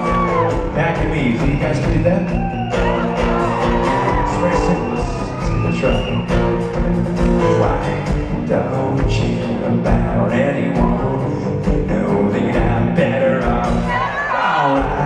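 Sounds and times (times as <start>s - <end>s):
strummed acoustic guitars: 0.0s - 15.0s.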